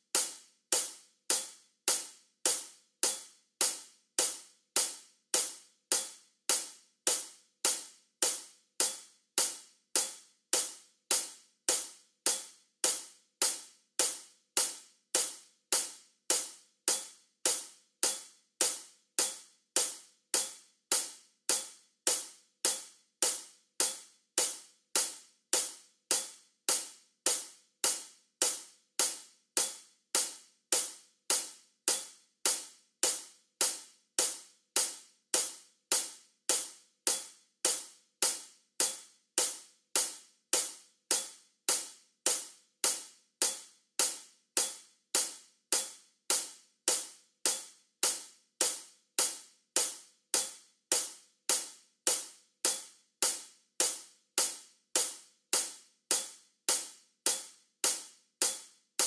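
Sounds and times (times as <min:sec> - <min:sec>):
hi-hat metronome click: 0:00.0 - 0:59.0.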